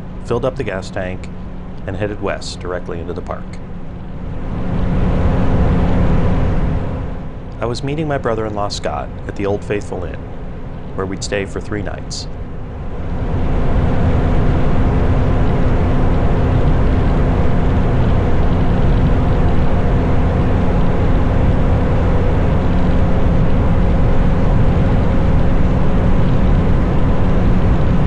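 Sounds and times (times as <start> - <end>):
rushing wind noise: 0.0 - 9.2, 12.4 - 28.0
motorcycle engine drone: 0.0 - 28.0.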